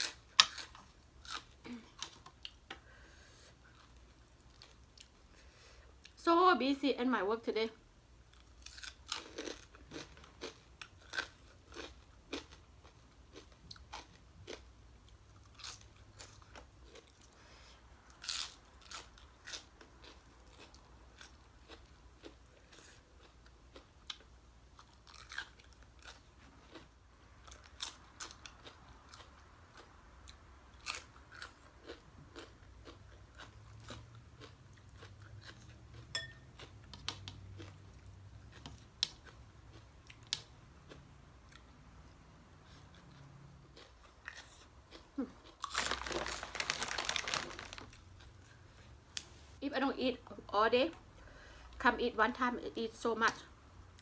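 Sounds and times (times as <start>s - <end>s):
chewing and crunching food: 0.0s - 6.2s, 8.2s - 49.6s.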